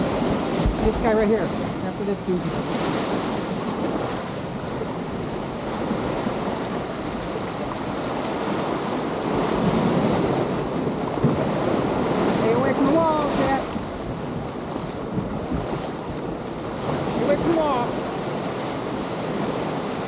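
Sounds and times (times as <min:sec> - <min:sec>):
ocean waves surging: 0:00.0 - 0:20.0
wind buffeting microphone: 0:00.0 - 0:20.0.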